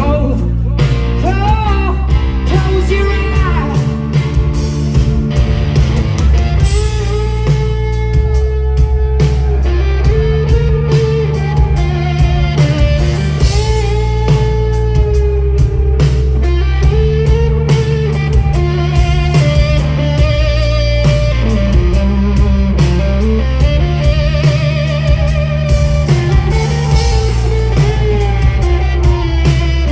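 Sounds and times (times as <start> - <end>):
bass line: 0.0 - 29.9
electric guitar lead: 0.0 - 29.9
drum beat: 1.4 - 29.9.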